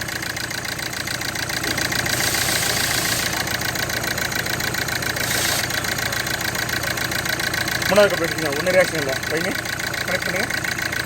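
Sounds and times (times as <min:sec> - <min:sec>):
diesel engine idling misfiring: 0:00.0 - 0:11.0.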